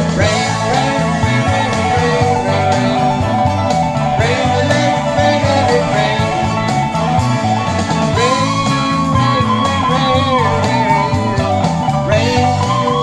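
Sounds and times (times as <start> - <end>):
country instrumental music: 0.0 - 13.0.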